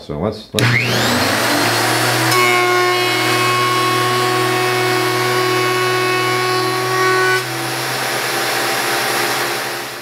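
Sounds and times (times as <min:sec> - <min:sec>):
thickness planer whining: 0:00.6 - 0:10.0.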